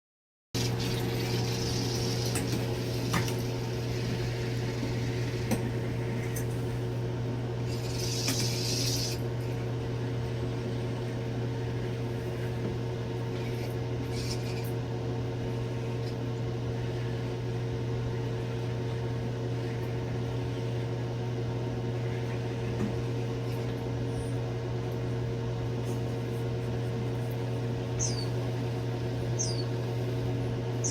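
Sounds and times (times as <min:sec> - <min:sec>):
low mechanical hum: 0:00.6 - 0:30.9.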